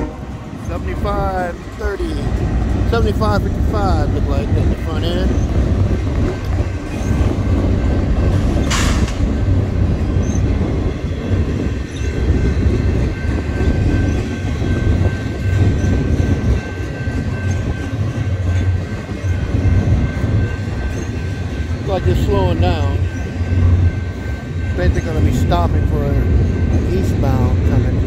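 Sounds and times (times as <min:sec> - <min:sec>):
clickety-clack over rail joints: 0:00.0 - 0:28.0
train wheels rumbling on rails: 0:00.0 - 0:28.0.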